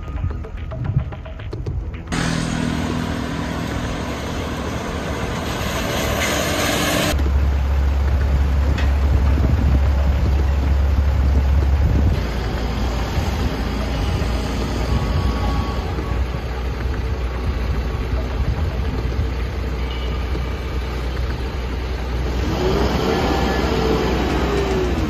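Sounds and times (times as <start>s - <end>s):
crane engine running: 2.1s - 25.0s
heavy low rumble: 2.1s - 25.0s.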